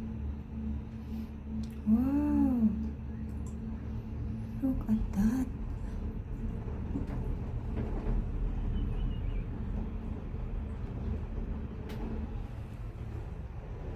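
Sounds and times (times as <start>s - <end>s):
cable car low rumble: 0.0s - 13.9s.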